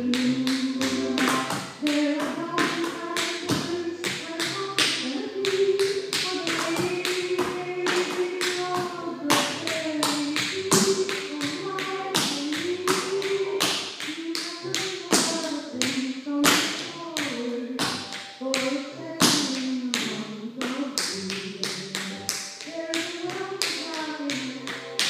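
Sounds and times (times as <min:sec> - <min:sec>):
tap shoes on wooden floor: 0:00.1 - 0:25.0.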